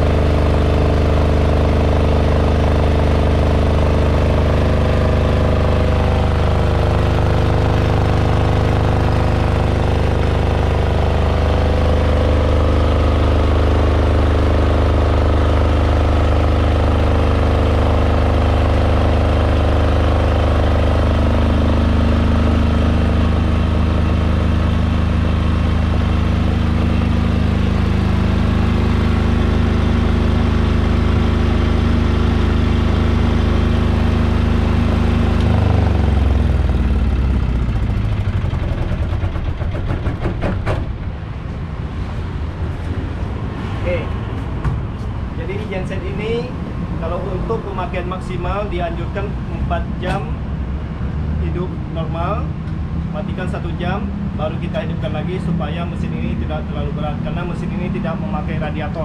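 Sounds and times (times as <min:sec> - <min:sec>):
diesel generator humming: 0:00.0 - 0:59.0.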